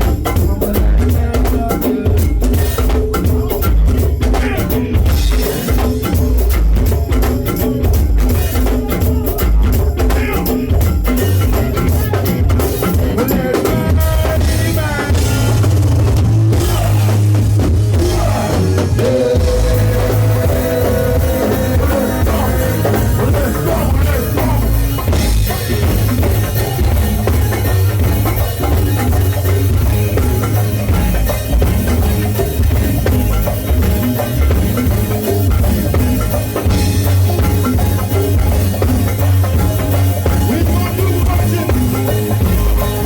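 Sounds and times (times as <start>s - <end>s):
go-go band music: 0.0s - 43.0s.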